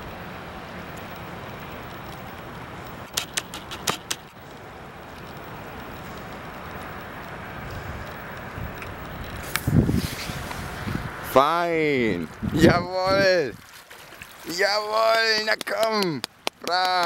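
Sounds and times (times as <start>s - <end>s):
choppy water: 0.0s - 17.0s
wind: 0.0s - 17.0s.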